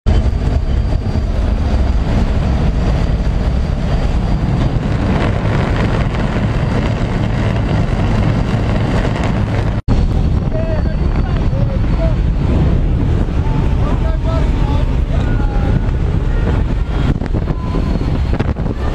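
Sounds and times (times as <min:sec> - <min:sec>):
propeller plane engine drone: 0:00.1 - 0:18.9
wind rush: 0:00.1 - 0:18.9.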